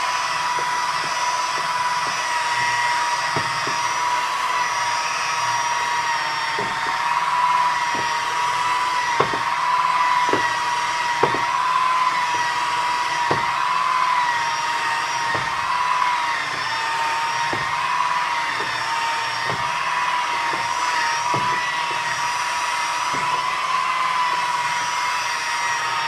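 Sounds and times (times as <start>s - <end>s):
electric polisher motor whine: 0.0s - 26.0s.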